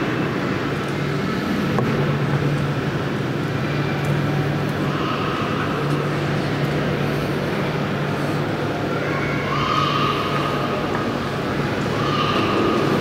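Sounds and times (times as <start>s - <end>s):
constant rumbling: 0.0s - 13.0s
railway turntable mechanical hum: 0.0s - 13.0s.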